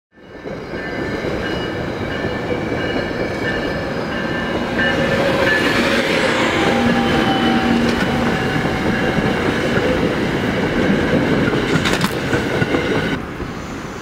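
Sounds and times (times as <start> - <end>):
train wheels rumbling on rail: 0.2 - 14.0.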